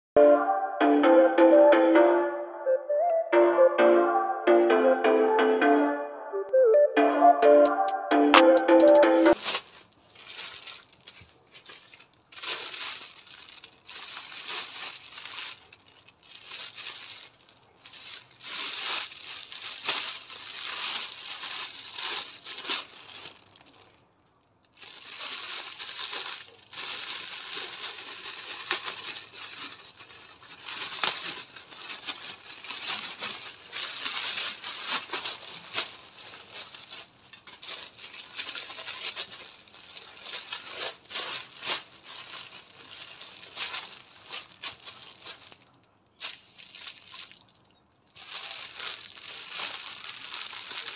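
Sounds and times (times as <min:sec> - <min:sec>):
plastic packaging crinkling: 0:09.3 - 0:50.9.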